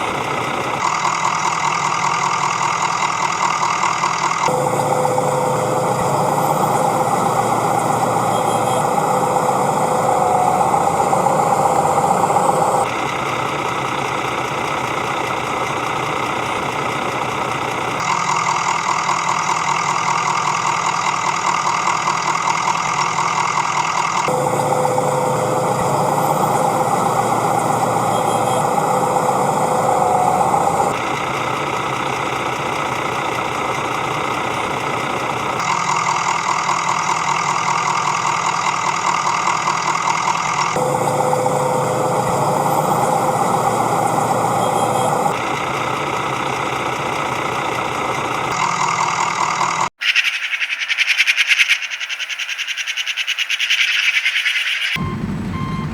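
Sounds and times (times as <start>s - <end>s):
truck engine idling: 0.0s - 49.9s, 55.0s - 55.9s.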